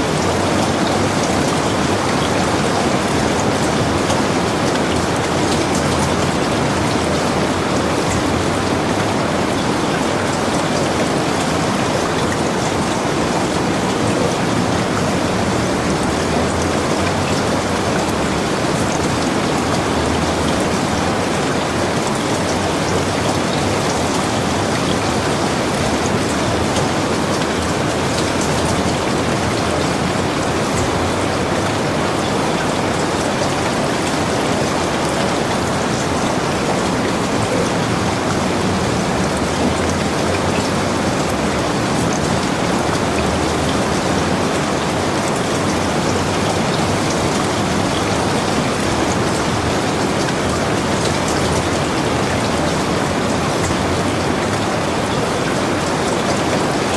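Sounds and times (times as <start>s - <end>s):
heavy rain hissing: 0.0s - 56.9s.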